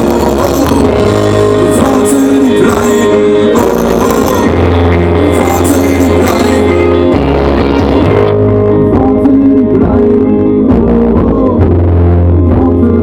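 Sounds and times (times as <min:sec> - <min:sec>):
bass line: 0:00.0 - 0:13.0
pop-rock band instrumental: 0:00.0 - 0:13.0.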